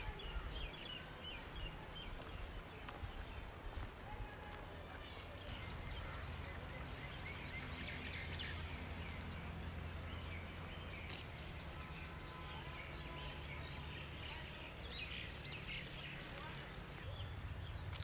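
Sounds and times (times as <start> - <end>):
birds chirping: 0.0 - 18.0
low outdoor rumble: 0.0 - 18.0.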